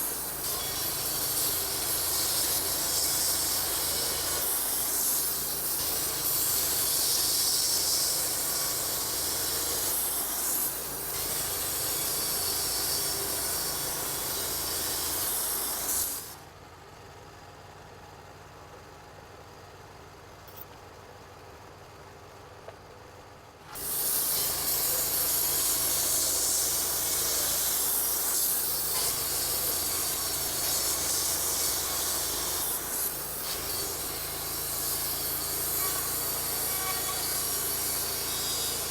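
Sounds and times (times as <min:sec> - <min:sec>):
band sawmill sawing log: 0:00.0 - 0:16.4, 0:23.7 - 0:38.9.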